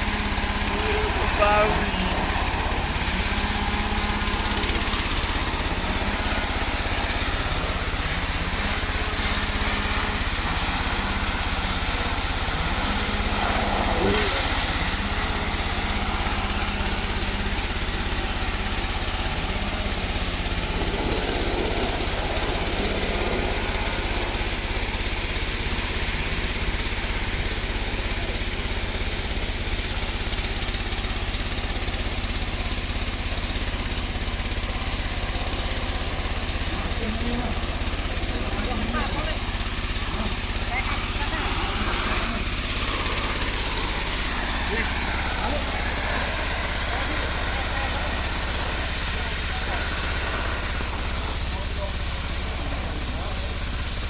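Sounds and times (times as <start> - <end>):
pump engine running: 0.0 - 54.0.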